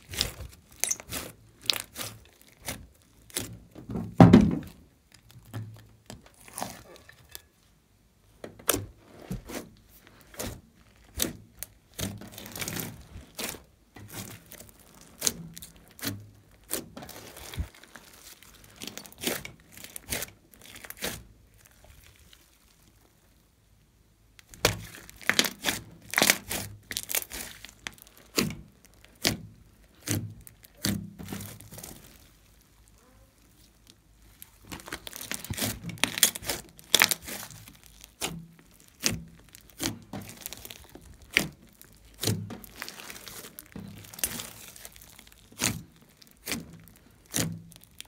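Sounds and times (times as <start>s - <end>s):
slime squelching and popping: 0.0s - 3.8s, 8.6s - 23.4s, 24.4s - 48.0s.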